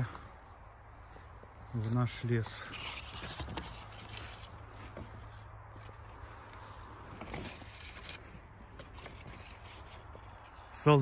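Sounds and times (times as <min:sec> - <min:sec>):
footsteps through dry twigs: 0:00.0 - 0:10.7.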